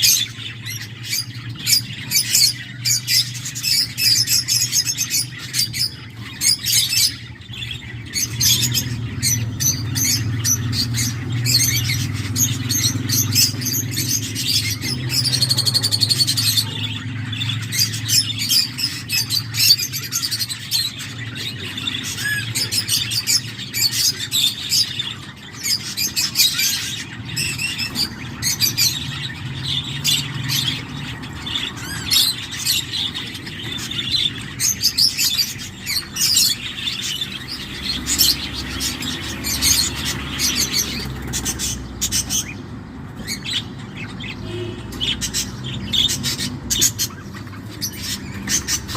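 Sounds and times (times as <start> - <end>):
chicks chirping and squawking: 0.0 - 48.9.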